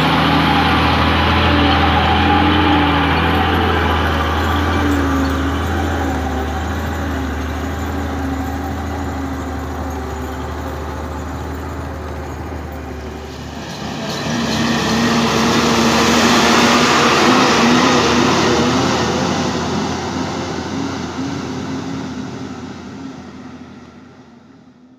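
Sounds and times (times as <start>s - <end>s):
diesel trucks running: 0.0s - 24.9s
dump truck passing: 0.0s - 24.9s.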